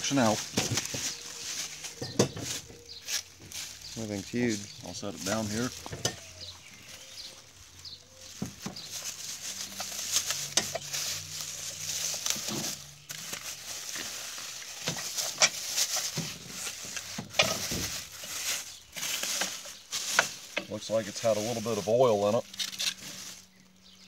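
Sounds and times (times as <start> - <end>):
plastic bag crinkling: 0.0 - 23.7.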